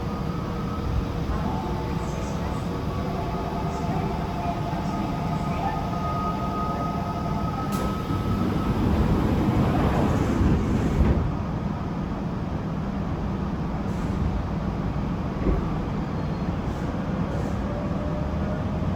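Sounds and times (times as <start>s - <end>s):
train cabin rumble: 0.0s - 18.0s.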